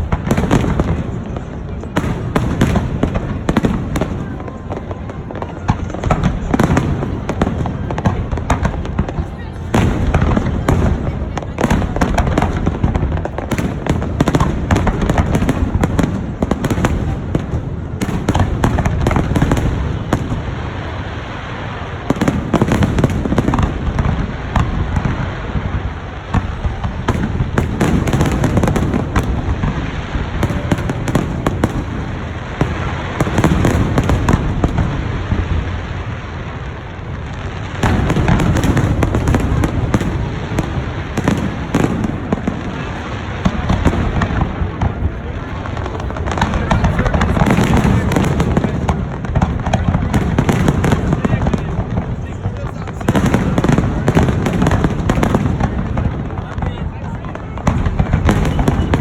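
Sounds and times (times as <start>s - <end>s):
deep fireworks booms: 0.0s - 59.0s
fireworks bangs and crackles: 0.0s - 59.0s.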